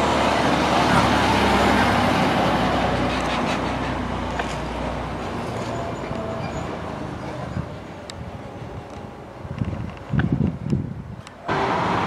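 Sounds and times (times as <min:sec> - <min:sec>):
fire engine driving past: 0:00.0 - 0:09.4, 0:11.5 - 0:12.0.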